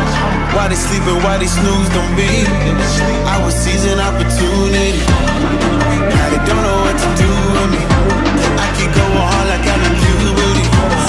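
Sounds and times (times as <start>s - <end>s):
hip-hop beat with heavy bass: 0.0s - 11.0s
person rapping: 0.0s - 11.0s.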